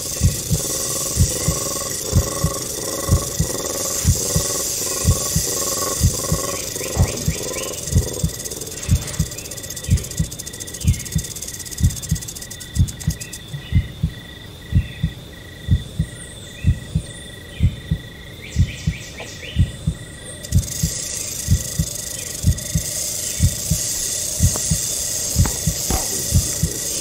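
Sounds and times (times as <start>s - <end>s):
heartbeat double thumps: 0.0s - 27.0s
rainforest insect chorus: 0.0s - 27.0s.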